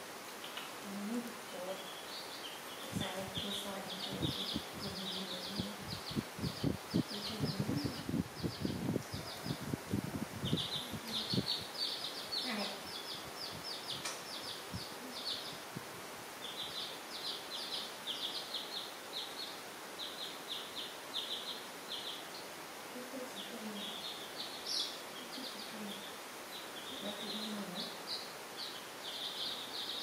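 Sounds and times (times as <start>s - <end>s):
baby chicks peeping: 0.4s - 15.8s, 16.4s - 30.0s.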